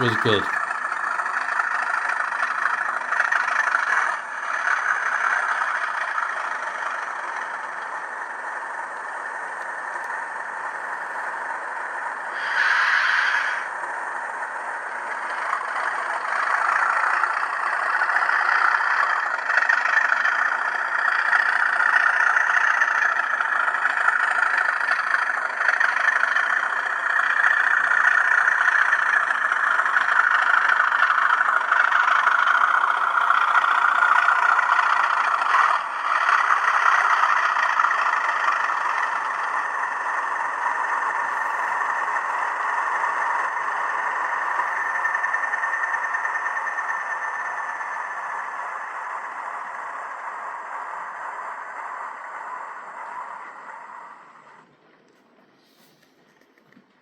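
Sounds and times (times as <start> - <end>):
diesel engine sound through small speaker: 0.0 - 57.0.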